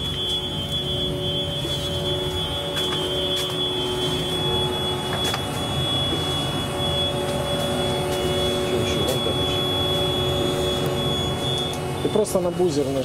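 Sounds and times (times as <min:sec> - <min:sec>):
high-pitched machinery whine: 0:00.0 - 0:13.0
low diesel engine drone: 0:00.0 - 0:13.0.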